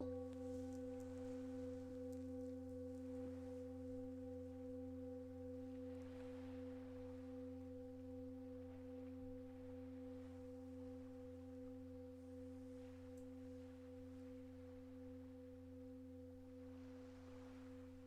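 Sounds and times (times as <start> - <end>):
singing bowl ringing: 0.0 - 18.0.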